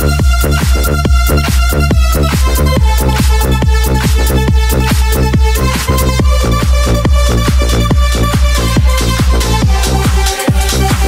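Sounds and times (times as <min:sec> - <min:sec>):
deep kick drum: 0:00.0 - 0:11.0
electronic dance music: 0:00.0 - 0:11.0
synth chords: 0:00.0 - 0:11.0.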